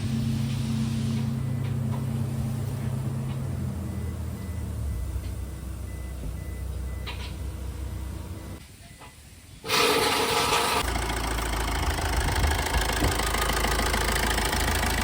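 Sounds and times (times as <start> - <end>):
car engine starting and idling: 0.0 - 8.6, 9.7 - 15.0.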